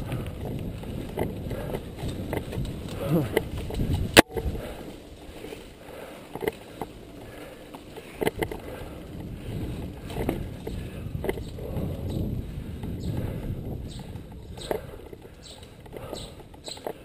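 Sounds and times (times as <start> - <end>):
bike knocking and rattling: 0.0 - 17.0
bike tyres rumbling: 0.0 - 17.0.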